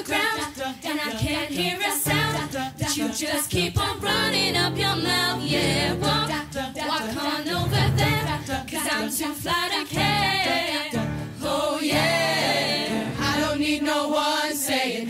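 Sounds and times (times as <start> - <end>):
choir singing a cappella: 0.0 - 15.0.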